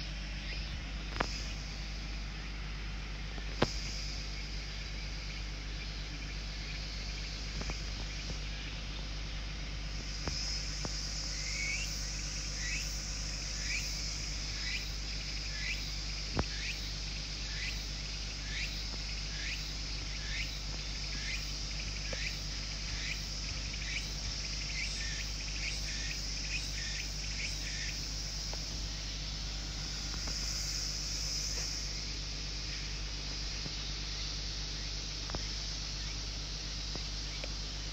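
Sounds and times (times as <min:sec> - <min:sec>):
high-pitched insect chorus: 0:00.0 - 0:37.9
low hum: 0:00.0 - 0:37.9
short falling insect chirp: 0:00.4 - 0:37.9.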